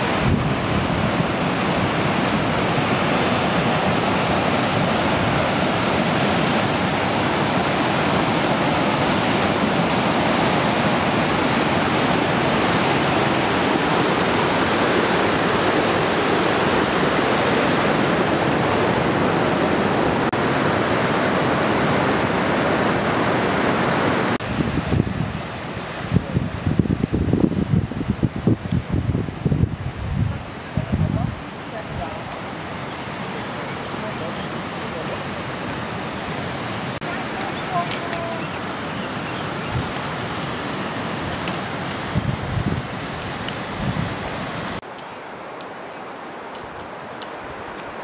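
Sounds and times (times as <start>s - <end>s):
mountain torrent rushing: 0.0s - 48.0s.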